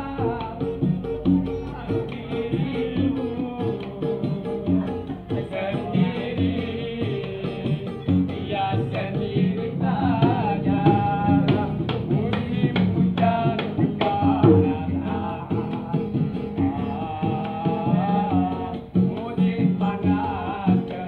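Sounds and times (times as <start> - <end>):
acoustic guitar: 0.0 - 21.0
man singing: 0.0 - 21.0
small hand drums: 0.0 - 21.0.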